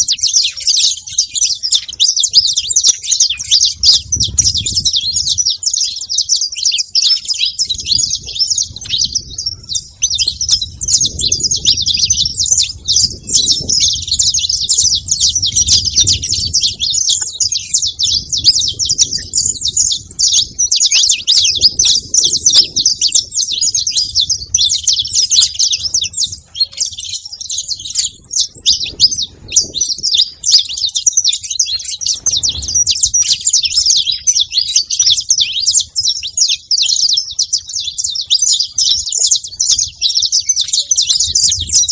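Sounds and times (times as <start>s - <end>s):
flock of finches chirping: 0.0s - 41.9s.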